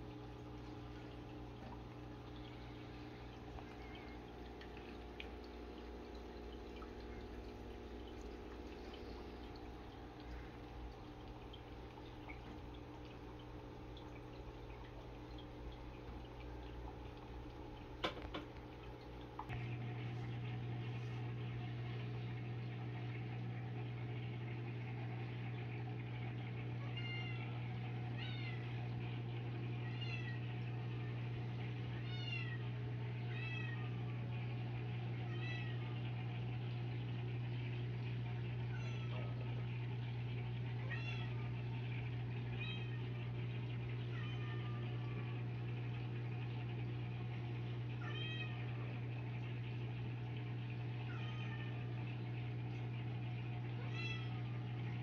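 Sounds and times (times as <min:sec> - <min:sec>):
low hum of aquarium equipment: 0:00.0 - 0:55.0.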